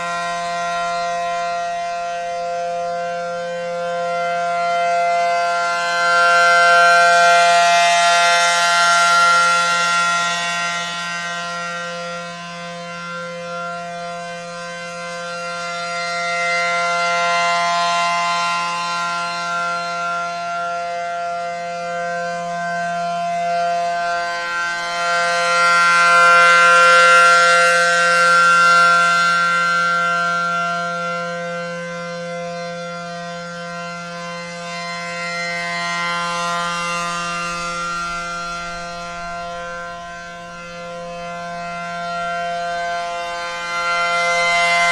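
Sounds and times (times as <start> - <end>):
rotating warning siren tone: 0.0 - 44.9.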